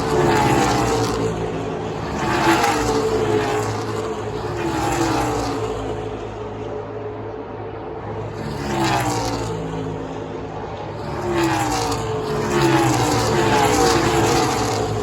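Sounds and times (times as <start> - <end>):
race cars passing by: 0.0 - 15.0
steady engine drone: 0.0 - 15.0.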